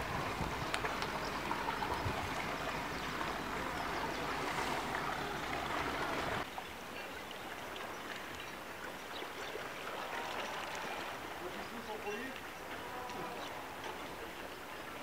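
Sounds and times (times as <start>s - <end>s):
rushing water: 0.0s - 15.0s
wind: 0.0s - 15.0s.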